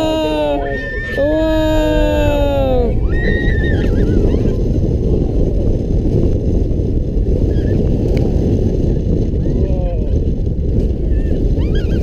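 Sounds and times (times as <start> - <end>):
wind roaring over microphone: 0.0 - 12.0.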